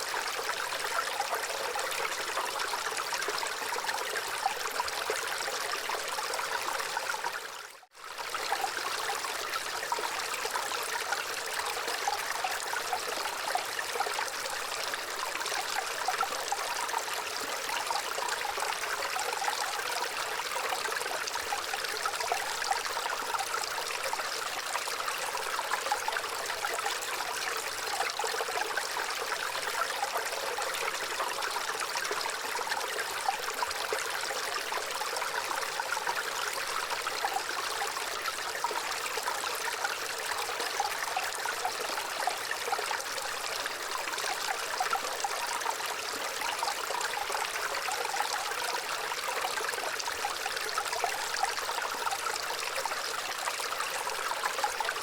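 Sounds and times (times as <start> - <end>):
stream trickling and burbling: 0.0 - 55.0.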